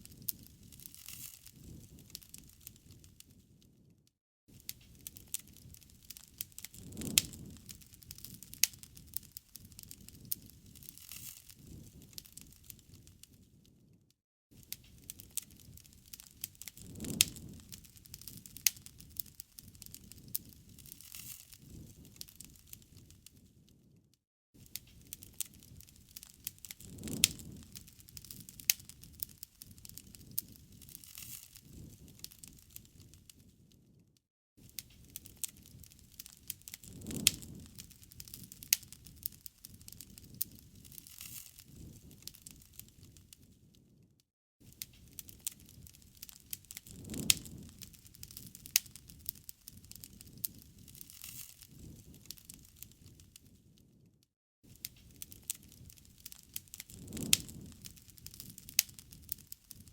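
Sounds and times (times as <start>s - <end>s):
wood fire crackling and popping: 0.0s - 14.0s, 14.6s - 24.0s, 24.6s - 34.0s, 34.6s - 44.0s, 44.6s - 54.1s, 54.7s - 59.9s
low rumble of flames: 0.0s - 24.0s, 24.6s - 44.0s, 44.6s - 54.1s, 54.7s - 59.9s.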